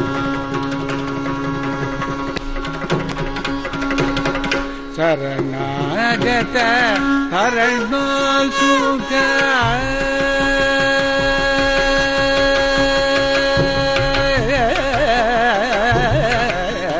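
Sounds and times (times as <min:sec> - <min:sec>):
mridangam and ghatam strokes: 0:00.0 - 0:16.9.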